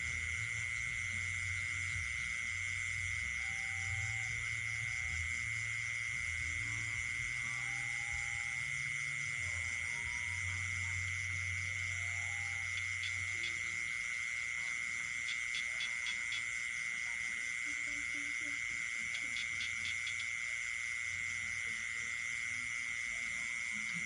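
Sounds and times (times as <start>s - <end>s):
frog notes: 0.0s - 24.0s
high insect trill: 0.0s - 24.0s
pulsing insect calls: 0.0s - 24.0s.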